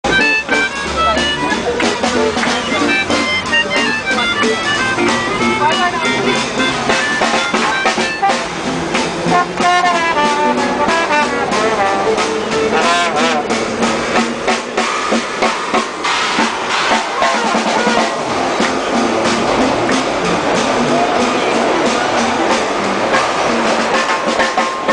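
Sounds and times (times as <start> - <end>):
brass horns melody: 0.0 - 24.9
steady drum beat: 0.0 - 24.9
swing jazz band playing: 0.0 - 24.9.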